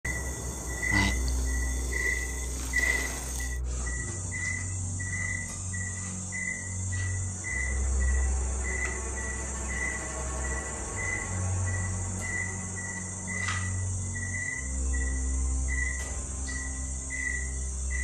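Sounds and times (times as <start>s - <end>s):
low droning hum: 0.0s - 16.9s
crickets chirping: 0.0s - 18.0s.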